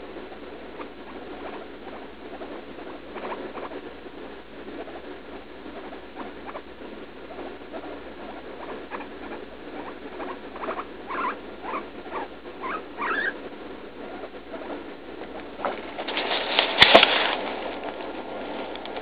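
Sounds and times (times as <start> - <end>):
guinea pig squeaking: 0.3 - 18.1.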